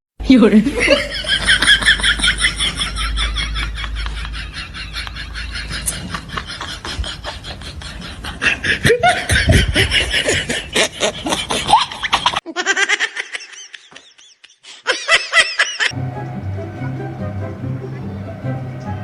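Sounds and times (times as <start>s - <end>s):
loud pulsing laughter: 0.7s - 19.0s
higher laugh: 0.8s - 18.2s.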